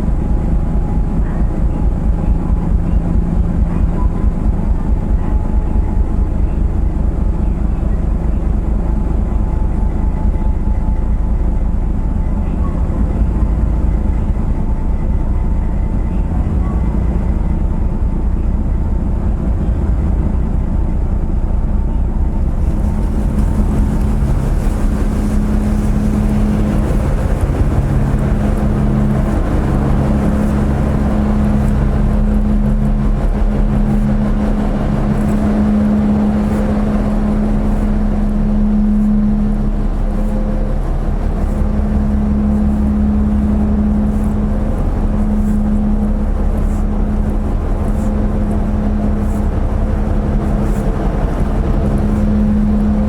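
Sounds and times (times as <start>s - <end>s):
ship engines droning: 0.0s - 53.0s.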